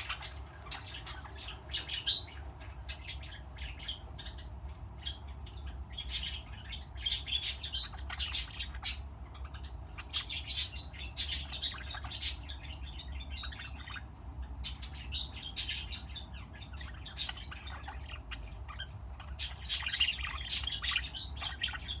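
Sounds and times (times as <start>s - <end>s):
budgerigars chirping and warbling: 0.0s - 22.0s.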